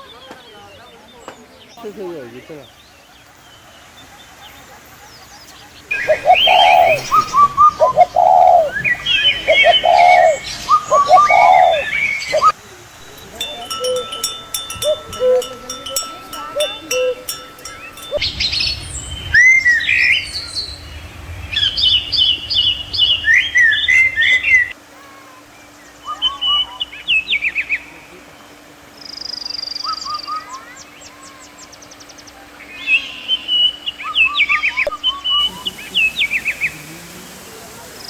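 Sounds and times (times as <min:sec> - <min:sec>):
birds chirping and calling: 0:00.0 - 0:24.8, 0:25.5 - 0:38.0.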